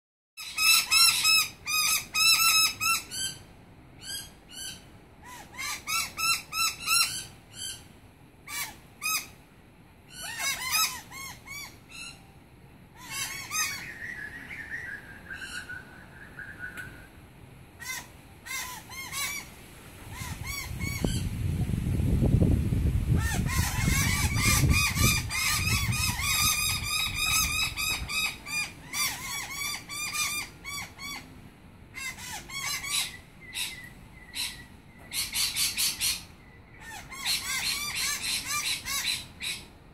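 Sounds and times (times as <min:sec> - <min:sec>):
birds giving harsh alarm calls: 0:00.4 - 0:09.4, 0:10.1 - 0:17.0, 0:17.8 - 0:21.4, 0:23.1 - 0:39.8.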